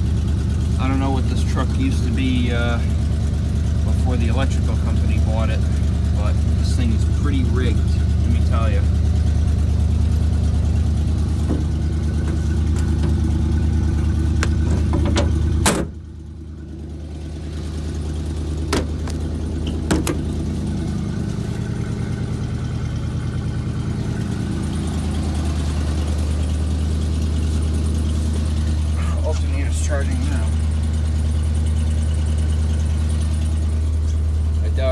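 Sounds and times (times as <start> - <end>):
engine running at fast idle: 0.0 - 34.9.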